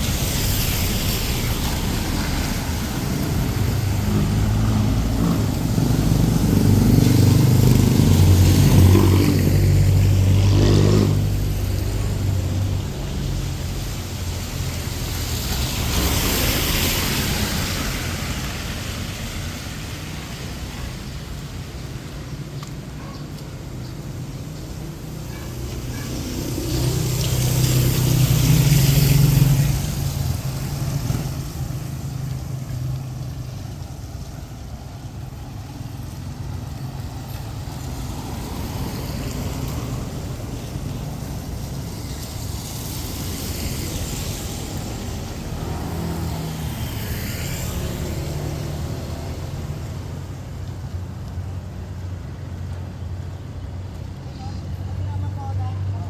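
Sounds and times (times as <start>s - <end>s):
vehicles passing on street: 0.0s - 56.0s.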